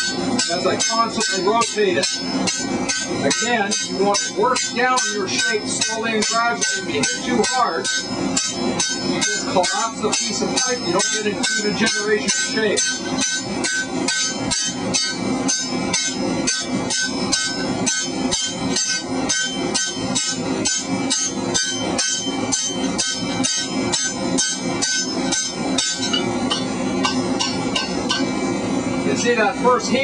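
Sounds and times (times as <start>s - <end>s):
hammer striking steel with ringing: 0.0s - 28.4s.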